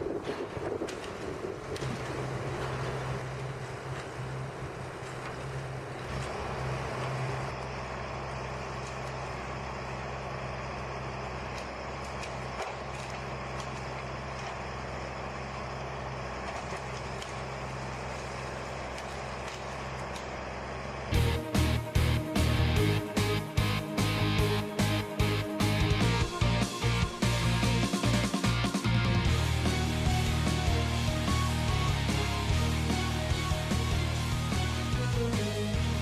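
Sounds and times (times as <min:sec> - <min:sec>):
heavy machine engine running: 0:00.0 - 0:36.0.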